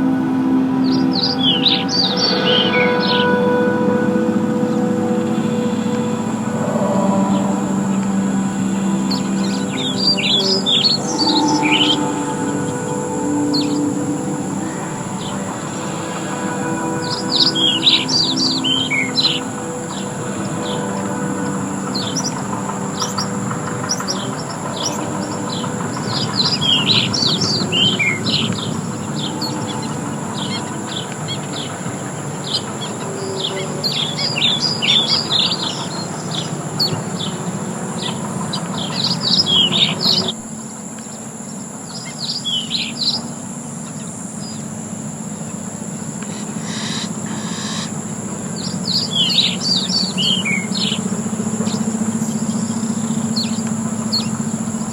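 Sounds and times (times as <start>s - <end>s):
low background noise: 0.0s - 54.9s
songbirds chirping: 0.0s - 54.9s.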